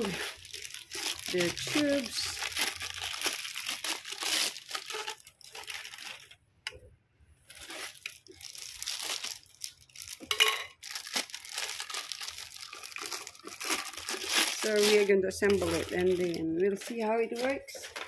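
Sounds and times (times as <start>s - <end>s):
plastic wrapping crinkling: 0.0s - 6.4s, 7.4s - 18.0s.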